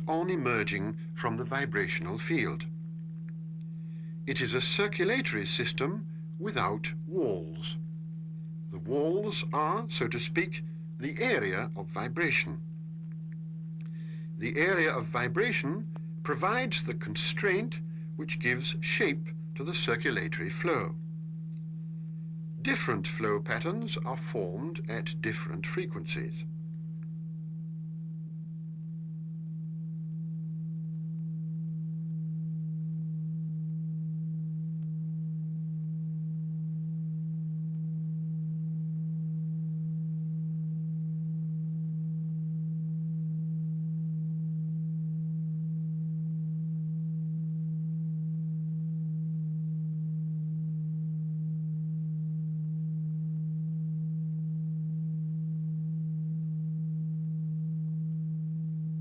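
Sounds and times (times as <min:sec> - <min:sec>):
low pure test tone: 0:00.0 - 0:59.0.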